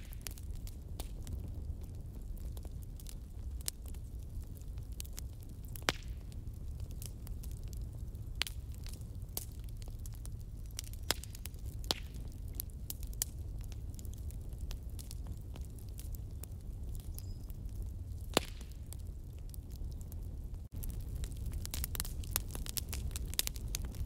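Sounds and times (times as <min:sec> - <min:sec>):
fire low rumble: 0:00.0 - 0:24.0
wood fire crackling and popping: 0:00.0 - 0:24.0.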